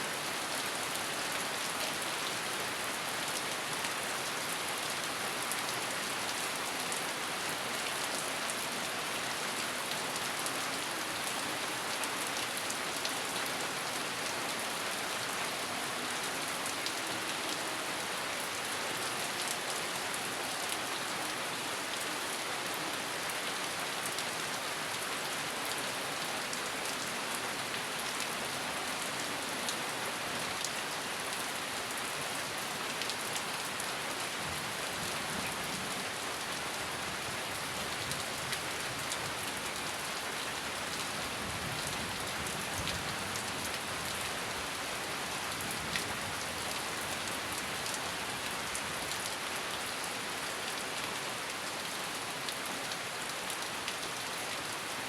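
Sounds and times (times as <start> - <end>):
steady rain pattering: 0.0 - 55.0.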